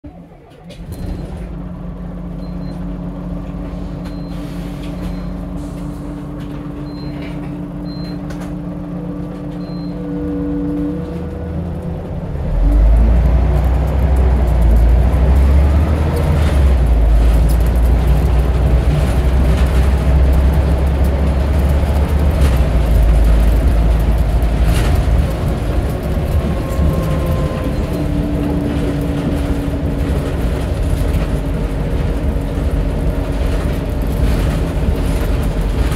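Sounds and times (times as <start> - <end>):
bus diesel engine: 0.0 - 35.9.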